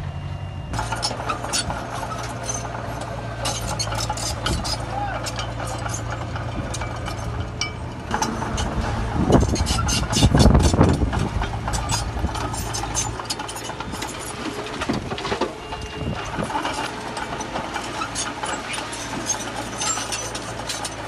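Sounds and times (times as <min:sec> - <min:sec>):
heavy diesel machinery running: 0:00.0 - 0:21.0
metallic clanks and rattles: 0:00.8 - 0:21.0.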